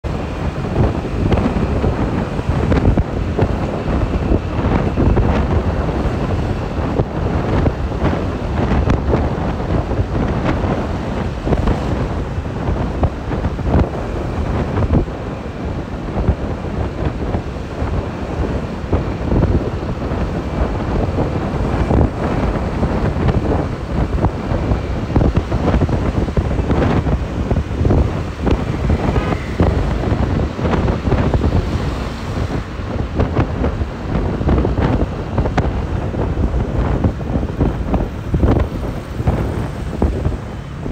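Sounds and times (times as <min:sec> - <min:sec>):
road traffic: 0:00.0 - 0:40.9
wind buffeting microphone: 0:00.0 - 0:40.9.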